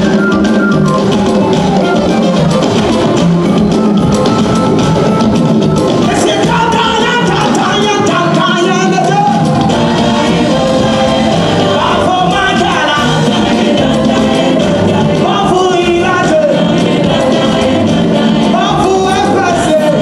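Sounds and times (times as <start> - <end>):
live band playing gospel: 0.0 - 20.0
singers and backing choir: 0.0 - 20.0.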